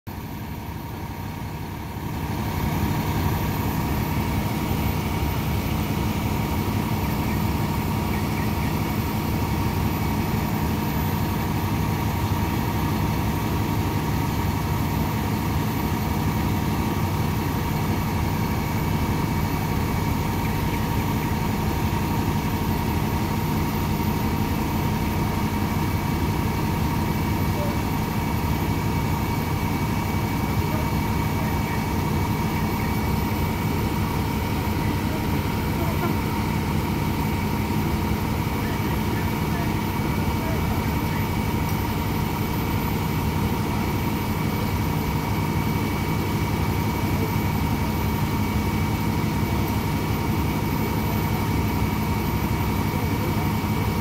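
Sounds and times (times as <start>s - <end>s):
diesel engine drone: 0.1s - 54.0s
steady high whine: 0.1s - 54.0s.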